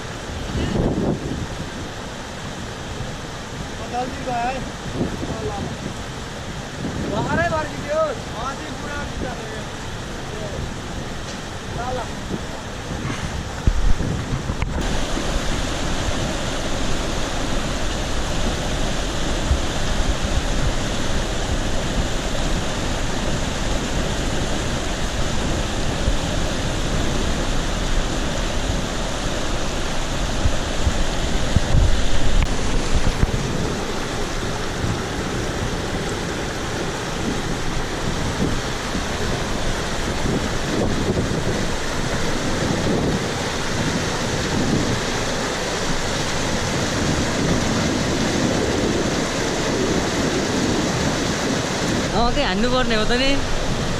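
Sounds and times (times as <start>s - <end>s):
stream rushing water: 0.0s - 53.9s.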